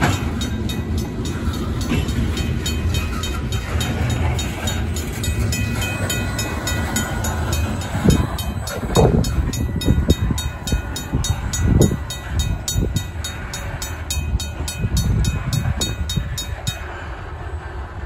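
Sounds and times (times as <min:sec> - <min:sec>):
mechanical crossing bell: 0:00.0 - 0:17.0
freight train wheels thumping: 0:00.0 - 0:17.8.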